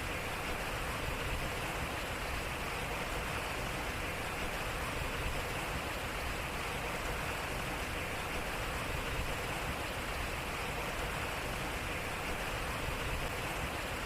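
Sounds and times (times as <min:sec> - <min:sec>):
water rushing at water wheel: 0:00.0 - 0:14.0.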